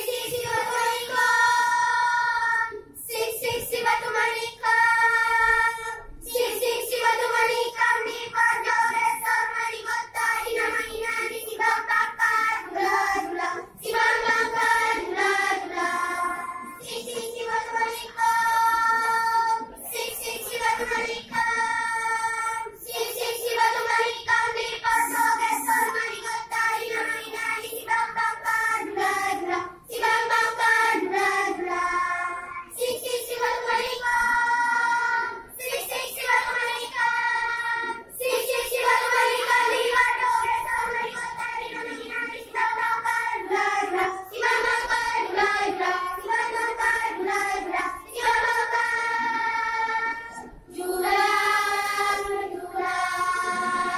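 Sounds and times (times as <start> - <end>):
children's choir singing: 0.0 - 53.9.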